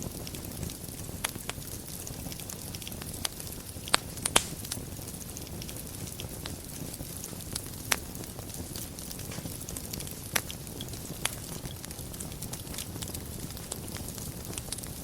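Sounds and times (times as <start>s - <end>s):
fire crackling and popping: 0.0s - 15.0s
fire rumbling and hissing: 0.0s - 15.0s.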